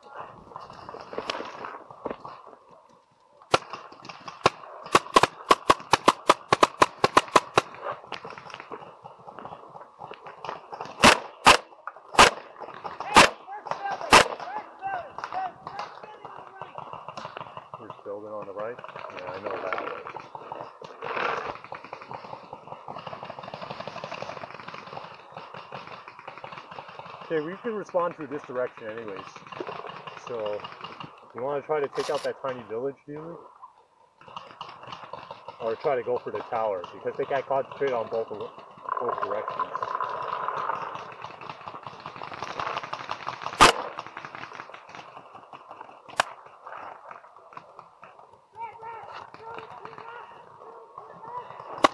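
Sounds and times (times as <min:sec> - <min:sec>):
small rapid clicks and crackles: 0:00.0 - 0:51.9
paintball markers firing rapidly: 0:03.5 - 0:32.6, 0:34.2 - 0:51.9.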